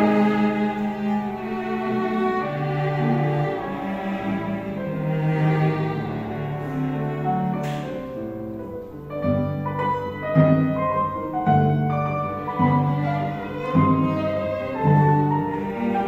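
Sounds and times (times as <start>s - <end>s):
violin and cello bowing long notes: 0.0s - 8.3s, 9.5s - 16.0s
grand piano: 0.0s - 16.0s.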